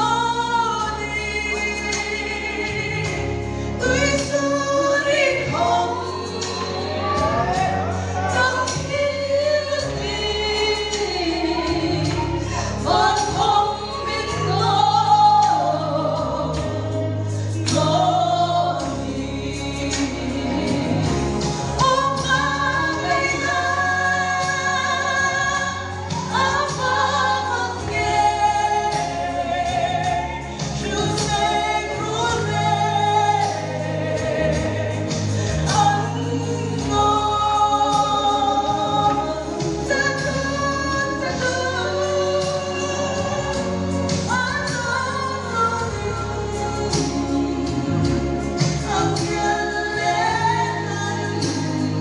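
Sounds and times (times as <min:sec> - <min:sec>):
congregation singing along: 0:00.0 - 0:52.0
instrumental backing: 0:00.0 - 0:52.0
woman singing gospel song: 0:00.0 - 0:52.0.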